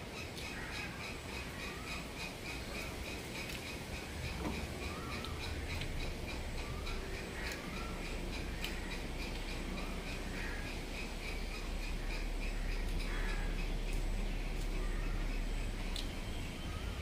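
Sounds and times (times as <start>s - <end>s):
birds chirping rapidly: 0.0s - 17.0s
steady low hum: 0.0s - 17.0s.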